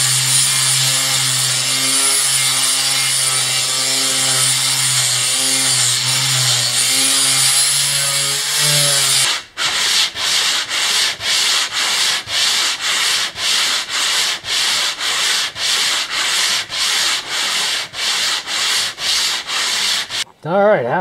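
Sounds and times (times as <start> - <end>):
sandpaper rubbing on wood: 0.0 - 20.2.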